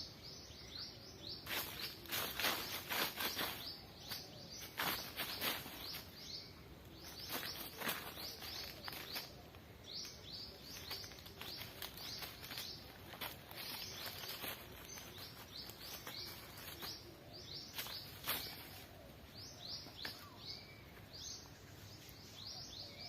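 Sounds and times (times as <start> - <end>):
outdoor background noise: 0.0 - 23.0
small birds chirping: 0.0 - 23.0.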